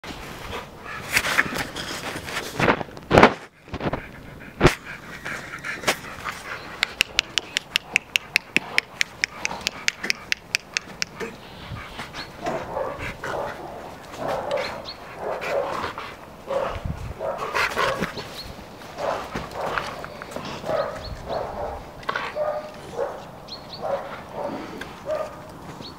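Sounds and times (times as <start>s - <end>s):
dog panting: 3.5s - 25.4s.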